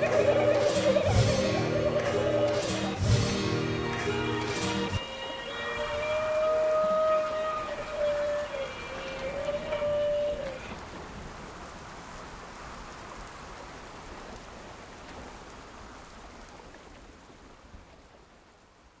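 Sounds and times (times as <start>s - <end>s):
hiss of rushing water: 0.0s - 19.0s.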